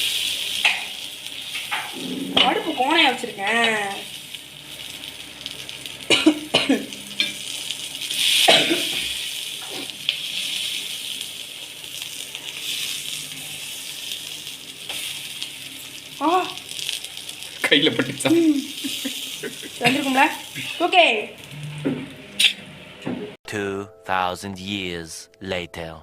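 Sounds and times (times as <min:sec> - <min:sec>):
chicken sizzling in oil: 0:00.0 - 0:22.3.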